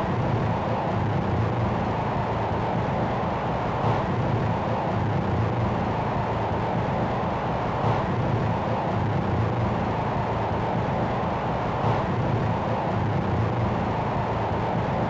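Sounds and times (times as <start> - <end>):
noise drone: 0.0 - 15.0.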